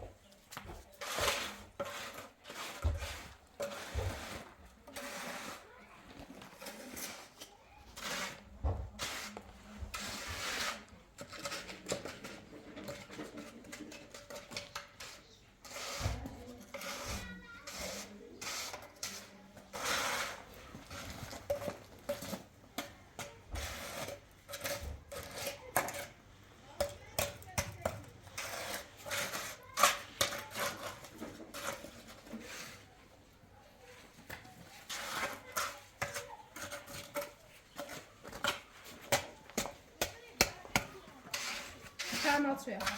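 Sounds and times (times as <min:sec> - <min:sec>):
tools scraping wet mortar: 0:00.0 - 0:42.9.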